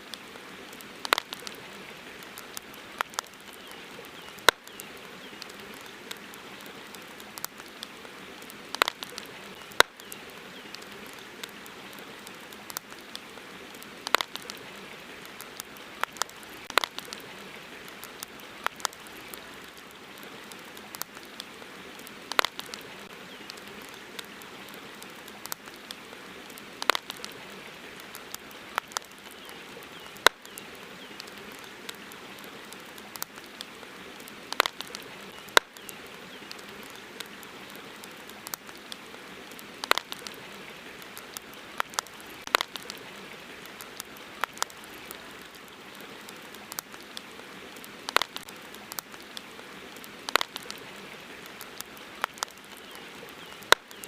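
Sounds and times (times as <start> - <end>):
campfire crackling and popping: 0.0 - 54.0
steady low hiss: 0.0 - 54.0.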